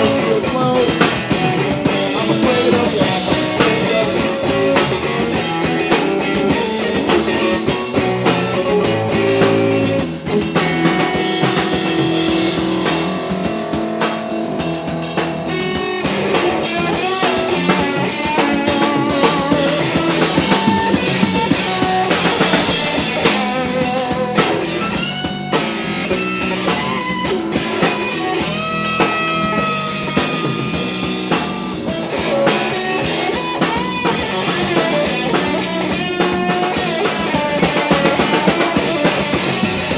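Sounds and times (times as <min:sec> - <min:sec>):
drum kit: 0:00.0 - 0:39.9
electric bass: 0:00.0 - 0:39.9
electric guitar bending notes: 0:00.0 - 0:39.9.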